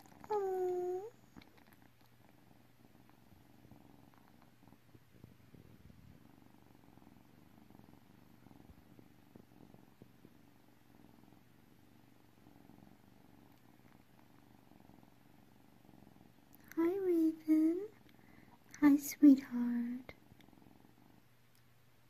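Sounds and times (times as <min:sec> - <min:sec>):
kittens purring: 0:00.0 - 0:22.0.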